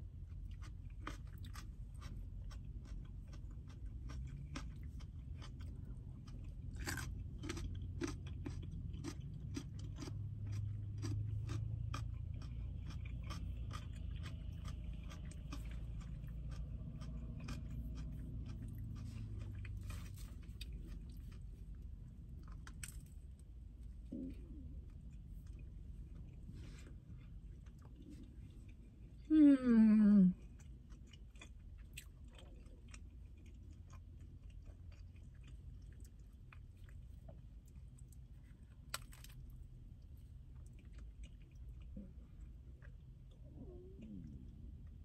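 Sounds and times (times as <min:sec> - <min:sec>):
steady low rumble: 0:00.0 - 0:45.0
carrot crunching: 0:00.3 - 0:29.0, 0:30.4 - 0:42.0.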